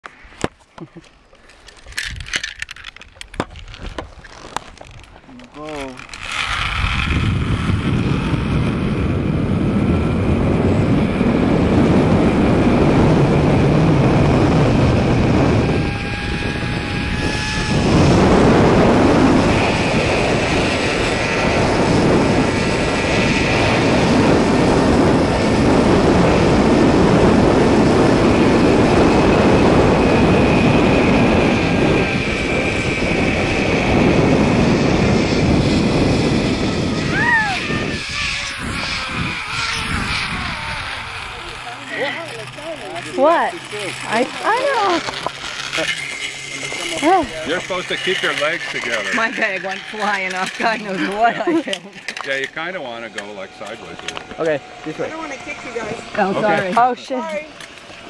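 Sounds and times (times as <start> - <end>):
wind: 0.0 - 58.0
zipline pulleys whirring on cable: 1.4 - 58.0.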